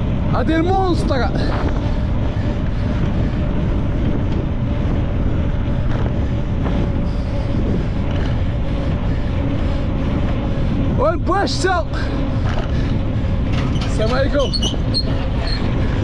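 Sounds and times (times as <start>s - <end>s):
motorcycle engine drone: 0.0s - 16.0s
wind rushing over microphone: 0.0s - 16.0s.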